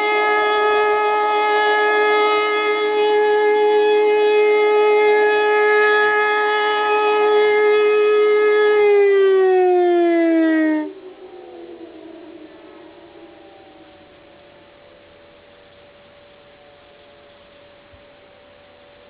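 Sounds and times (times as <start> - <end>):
siren steady tone: 0.0 - 19.0.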